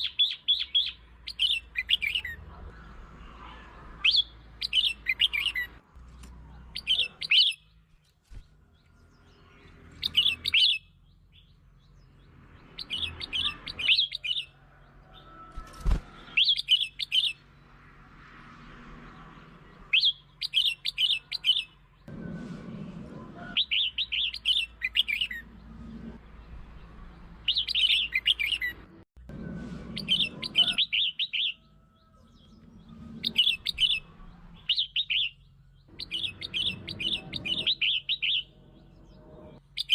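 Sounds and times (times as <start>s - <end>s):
bird singing chirpy phrases: 0.0s - 14.5s, 16.4s - 17.8s, 19.1s - 22.0s, 23.6s - 28.8s, 30.0s - 39.9s.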